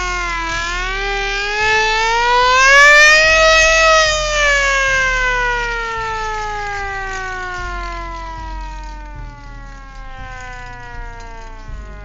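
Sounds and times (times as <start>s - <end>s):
siren winding down: 0.0s - 12.0s.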